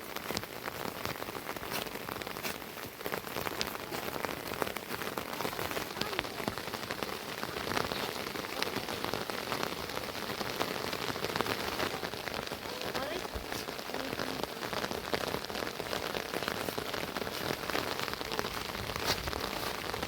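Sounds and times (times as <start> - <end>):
rain drops on hard surface: 0.0 - 20.0.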